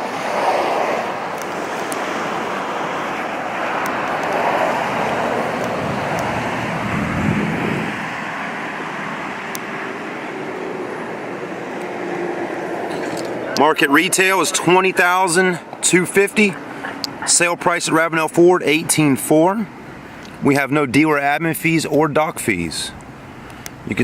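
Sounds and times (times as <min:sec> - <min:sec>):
road traffic noise: 0:00.0 - 0:24.0
vehicles passing: 0:00.0 - 0:24.0.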